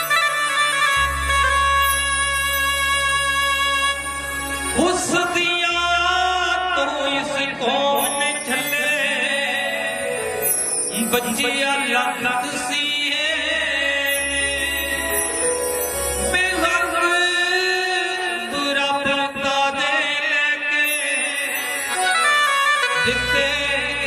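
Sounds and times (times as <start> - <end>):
harmonium: 0.0 - 24.0
man singing devotional song: 2.4 - 24.0.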